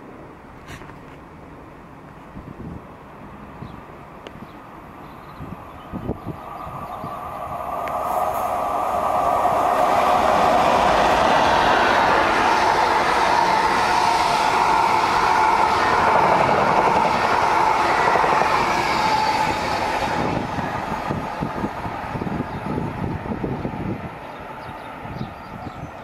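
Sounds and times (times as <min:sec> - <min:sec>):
train wheels rushing on rail: 0:02.0 - 0:26.0.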